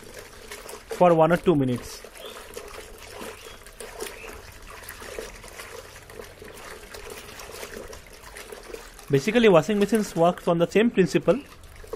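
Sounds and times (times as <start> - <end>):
water sloshing in a bucket: 0.0 - 11.9.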